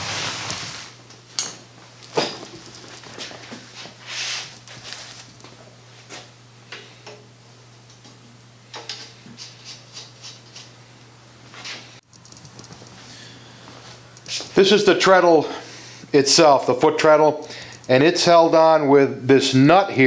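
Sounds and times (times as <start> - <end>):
steady low hum: 0.1 - 19.7.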